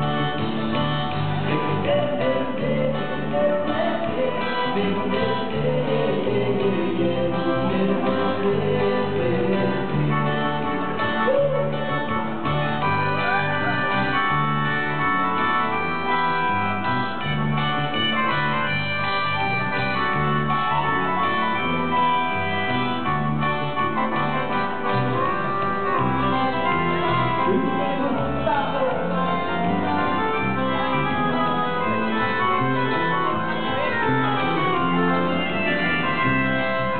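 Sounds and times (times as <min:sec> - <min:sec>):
keyboard organ-like chords: 0:00.0 - 0:36.9
live band music: 0:00.0 - 0:36.9.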